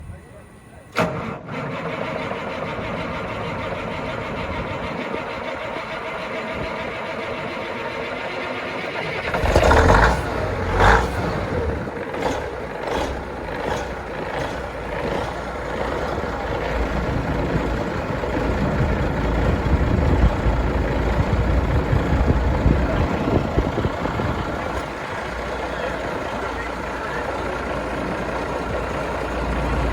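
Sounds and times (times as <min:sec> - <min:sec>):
truck diesel engine idling: 0:00.0 - 0:01.0, 0:01.6 - 0:29.9.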